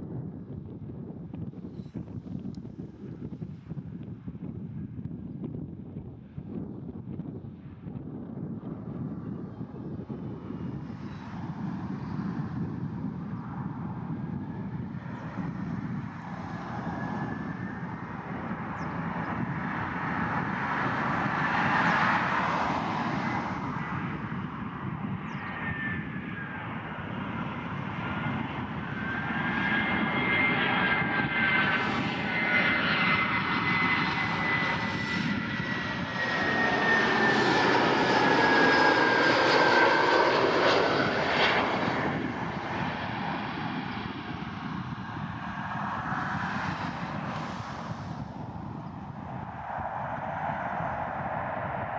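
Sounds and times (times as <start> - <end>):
jet airliner engines roaring: 7.5 - 51.9
high engine whine: 9.9 - 51.9.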